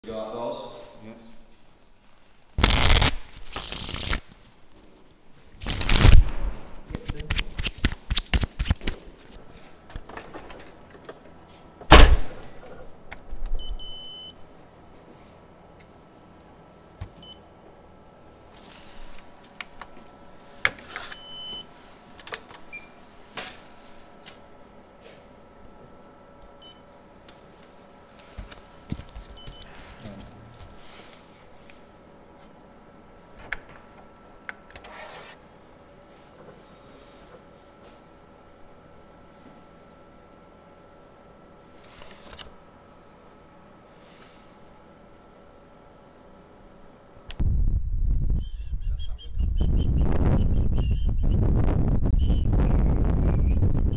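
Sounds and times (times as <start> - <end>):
copier humming: 2.6 - 47.3.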